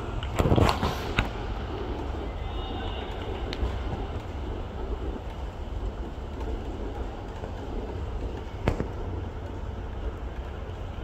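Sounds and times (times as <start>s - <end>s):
stadium ambience low rumble: 0.0s - 11.0s.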